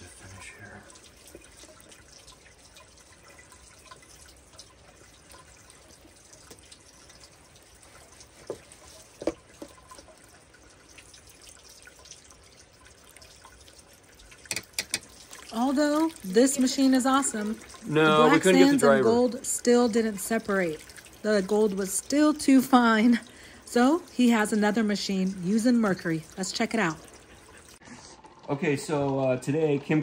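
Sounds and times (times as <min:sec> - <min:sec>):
water trickling and dripping: 0:00.0 - 0:30.0
water plops: 0:00.8 - 0:27.8.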